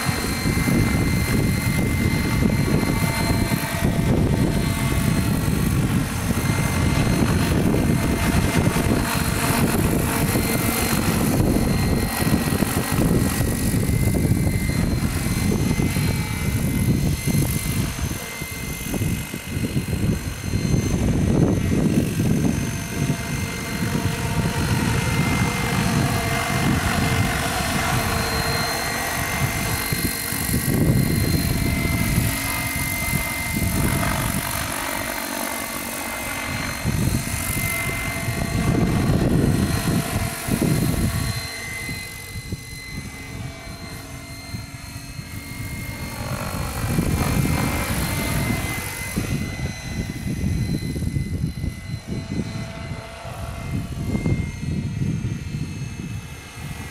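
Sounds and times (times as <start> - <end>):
model helicopter whine and rotor: 0.0 - 56.9
wind rumbling on microphone: 0.0 - 56.9.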